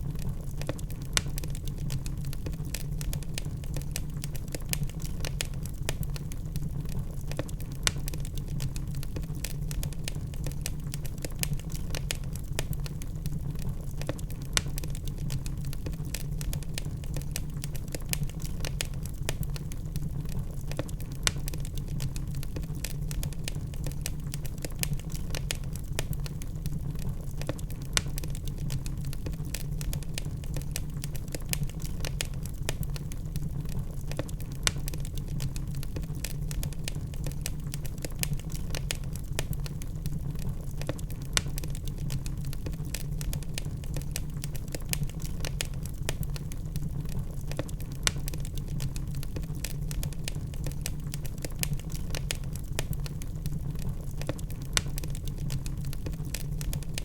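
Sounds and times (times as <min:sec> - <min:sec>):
log fire crackling: 0:00.0 - 0:57.0
low rumble of flames: 0:00.0 - 0:57.0.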